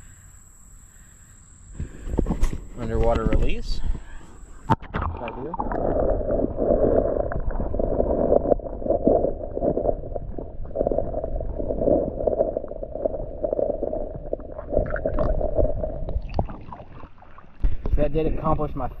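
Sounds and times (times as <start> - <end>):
muffled creek water gurgling: 0.0 - 19.0.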